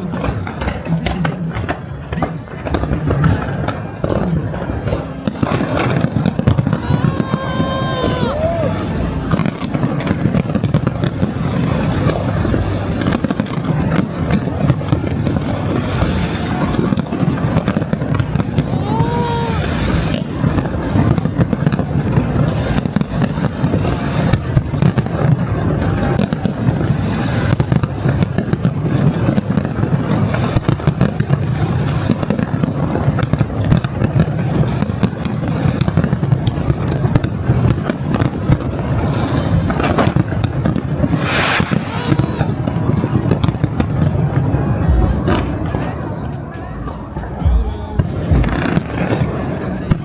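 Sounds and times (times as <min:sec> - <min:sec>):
fireworks booming and cracking: 0:00.0 - 0:50.0
high fireworks crackling: 0:00.0 - 0:50.0.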